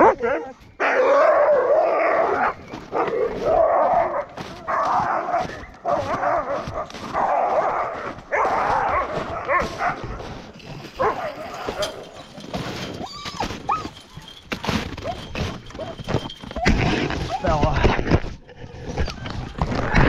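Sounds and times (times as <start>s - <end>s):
dogs barking and yelping: 0.0s - 17.5s.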